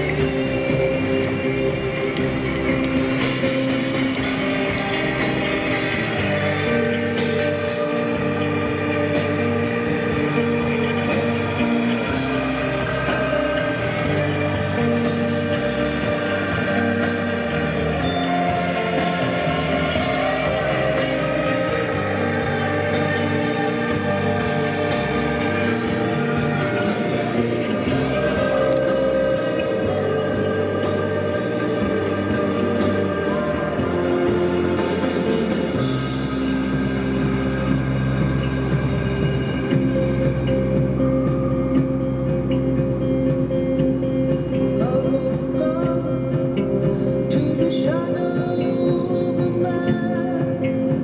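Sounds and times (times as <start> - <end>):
guitar background music: 0.0 - 51.0
song with held instrumental chords: 0.0 - 51.0.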